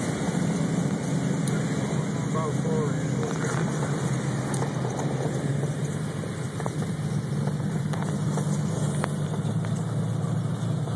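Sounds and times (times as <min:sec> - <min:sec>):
aircraft piston engines droning: 0:00.0 - 0:10.9.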